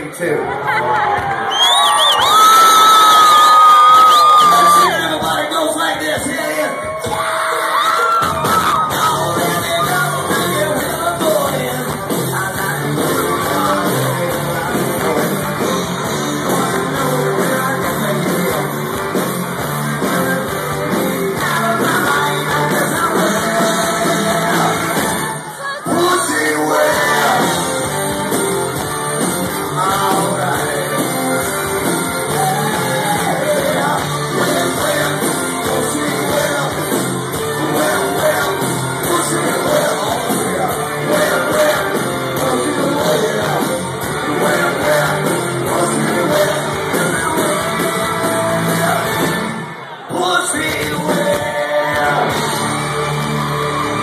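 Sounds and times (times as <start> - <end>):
live rock band playing: 0.0 - 54.0
lead singer singing: 2.2 - 54.0.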